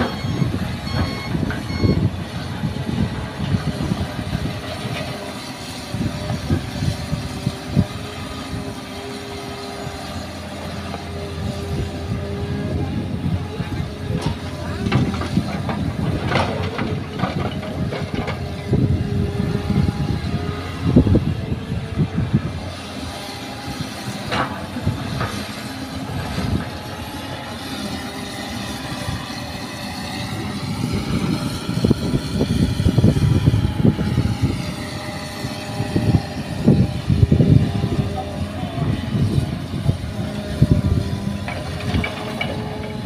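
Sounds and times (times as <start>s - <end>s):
excavator engine running: 0.0s - 43.0s.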